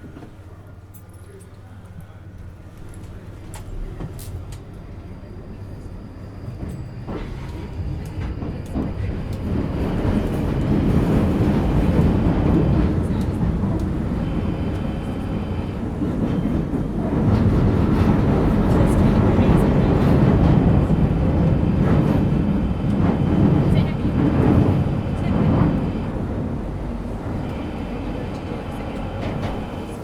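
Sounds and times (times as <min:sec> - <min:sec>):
train rumbling through tunnel: 0:00.0 - 0:30.0.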